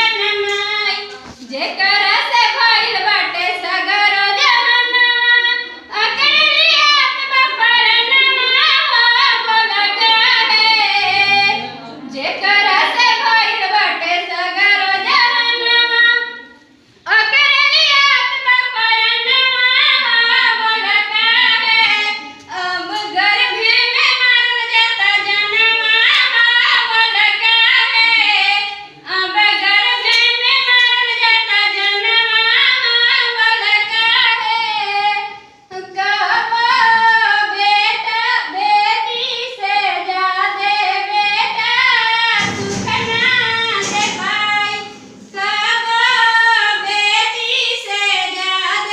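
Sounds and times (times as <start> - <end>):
girl singing: 0.0 - 48.9.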